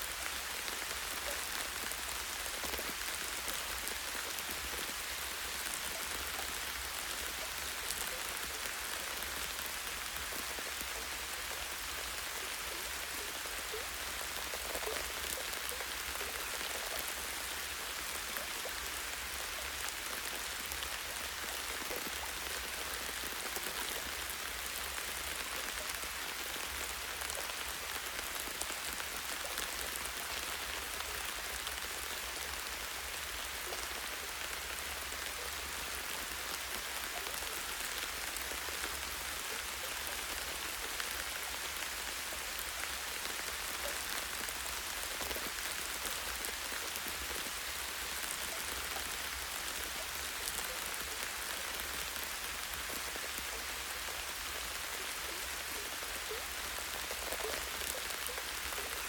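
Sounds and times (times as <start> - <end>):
light rain hiss: 0.0 - 59.0.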